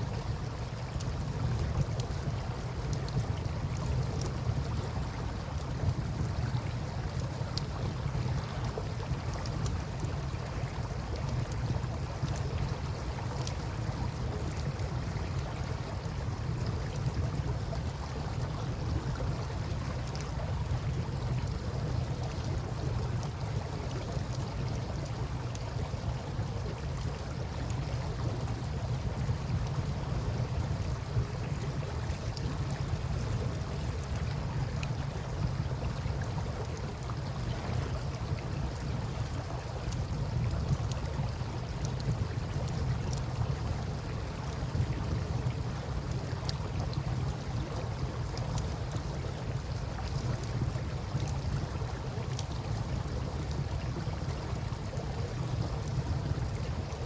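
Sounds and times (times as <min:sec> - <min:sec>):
river water rumbling: 0:00.0 - 0:57.0
campfire crackling and popping: 0:00.4 - 0:08.1, 0:08.7 - 0:56.7.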